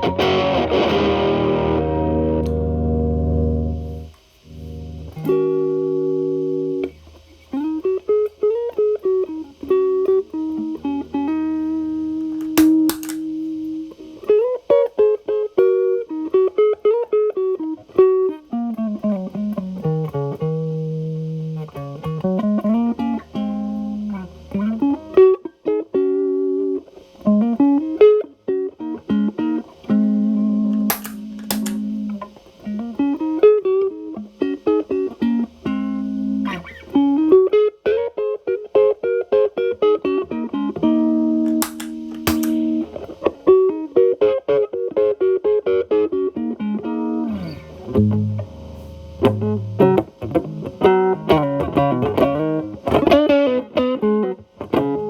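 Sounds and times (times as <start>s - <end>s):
distorted electric guitar lead: 0.0s - 55.0s.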